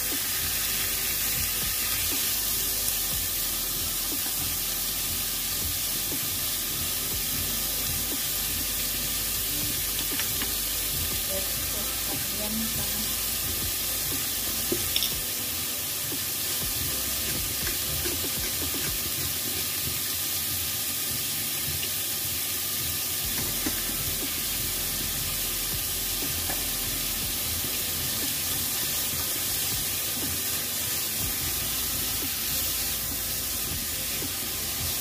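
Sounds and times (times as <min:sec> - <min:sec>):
meat sizzling in a pot: 0:00.0 - 0:35.0.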